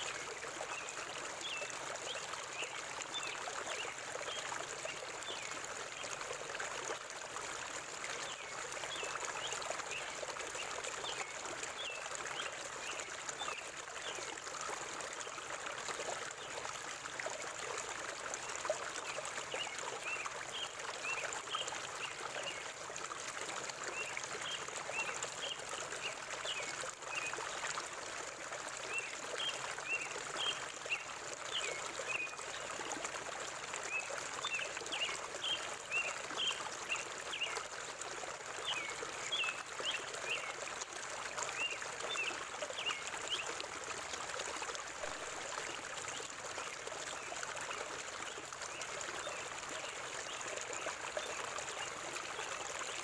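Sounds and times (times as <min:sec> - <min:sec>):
stream babbling over rocks: 0:00.0 - 0:53.0.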